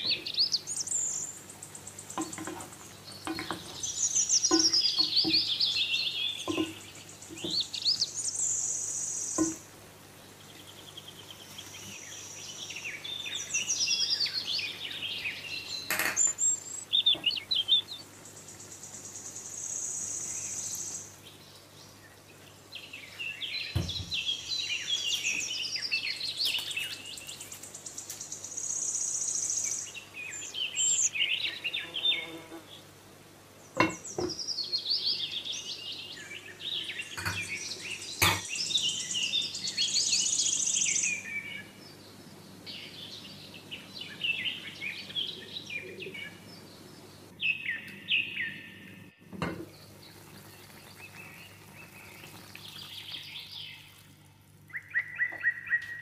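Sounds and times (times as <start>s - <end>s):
birds chirping: 0.0s - 32.9s, 33.6s - 56.0s.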